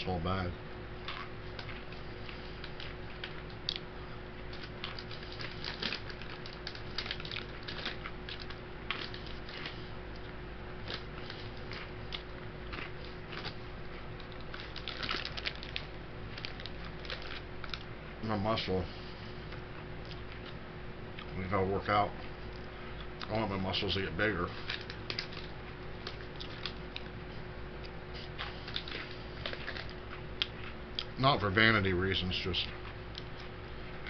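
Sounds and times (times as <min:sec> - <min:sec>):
low electrical hum: 0:00.0 - 0:34.0
crackers crunching: 0:01.0 - 0:34.0.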